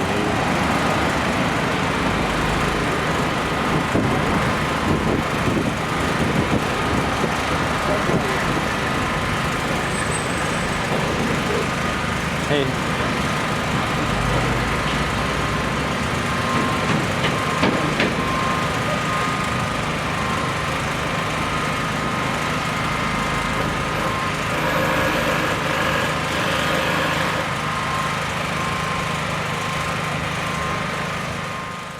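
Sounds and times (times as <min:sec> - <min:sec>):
construction machinery engine running: 0:00.0 - 0:31.9.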